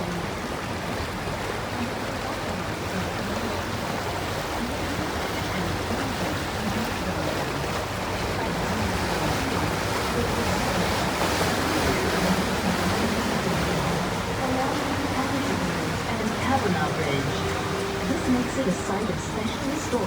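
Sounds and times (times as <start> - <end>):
water rushing: 0.0 - 20.0
wind: 0.0 - 20.0.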